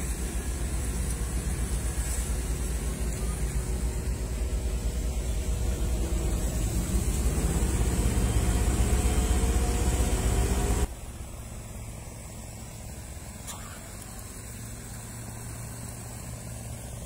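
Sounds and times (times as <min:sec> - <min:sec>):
heavy machinery engines running: 0:00.0 - 0:17.0.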